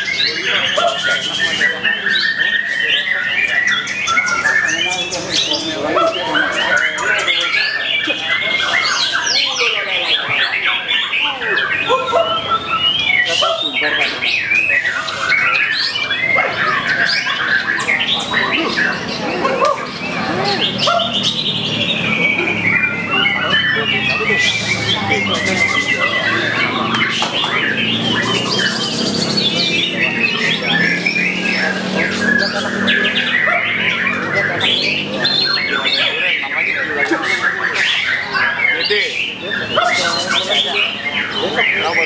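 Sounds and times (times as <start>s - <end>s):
songbirds singing: 0.0s - 42.0s.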